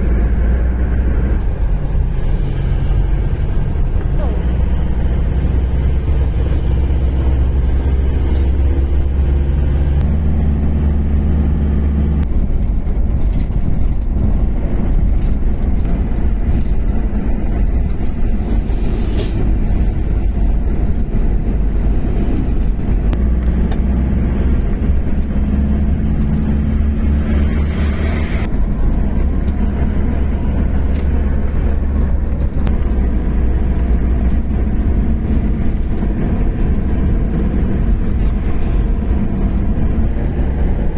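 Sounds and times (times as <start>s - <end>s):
diesel truck engine drone: 0.0s - 40.9s
road rumble: 0.0s - 40.9s.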